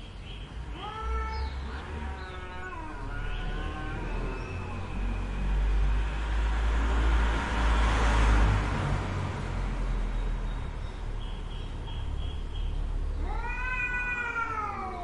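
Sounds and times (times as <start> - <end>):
vehicle passing: 1.4 - 13.7.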